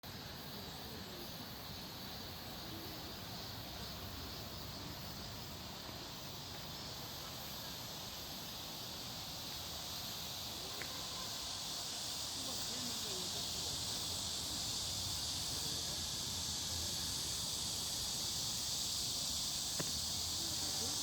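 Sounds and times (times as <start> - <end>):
outdoor ambient hiss: 0.0 - 21.0.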